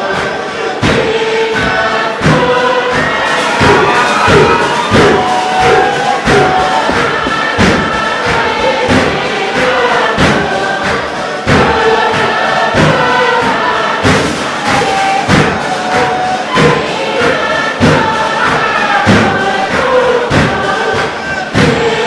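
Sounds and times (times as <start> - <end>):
group singing in chorus: 0.0 - 22.0.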